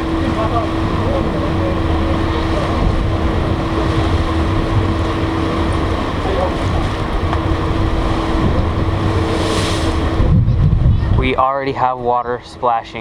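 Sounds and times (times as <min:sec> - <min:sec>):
wind buffeting microphone: 0:00.0 - 0:12.2
ferry engines droning: 0:00.0 - 0:13.0.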